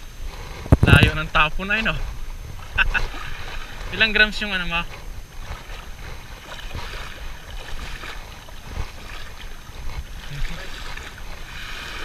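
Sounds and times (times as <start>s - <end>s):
small waves lapping: 0.0s - 12.0s
wind buffeting microphone: 0.0s - 12.0s.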